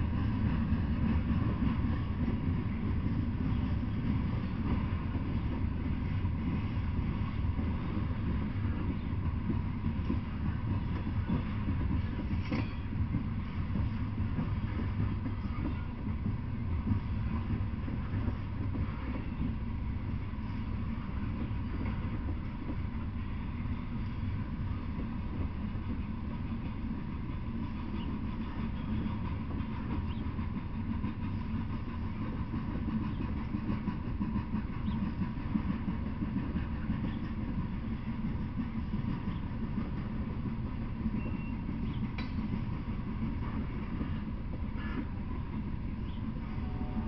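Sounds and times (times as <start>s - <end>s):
freight train wheels rumbling on rails: 0.0s - 47.0s.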